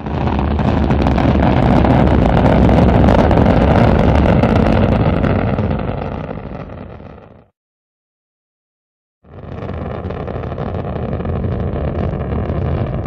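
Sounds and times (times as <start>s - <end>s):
rocket engine rumbling hiss: 0.0s - 7.2s, 9.3s - 13.0s.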